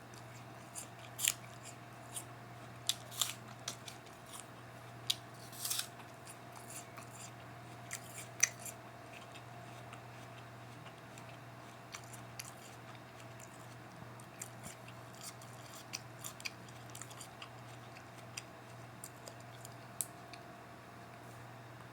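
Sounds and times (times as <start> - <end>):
faint steady hum: 0.0 - 21.9
person chewing apple: 0.1 - 20.4.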